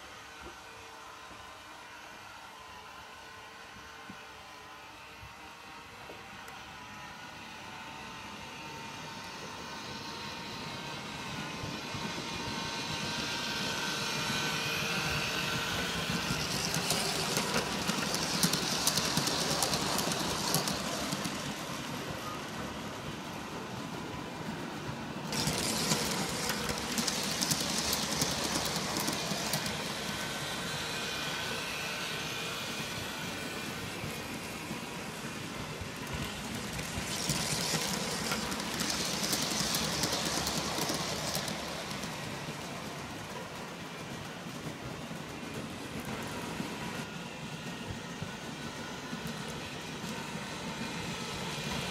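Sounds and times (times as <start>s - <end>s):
model trains rolling on track: 0.0s - 51.9s.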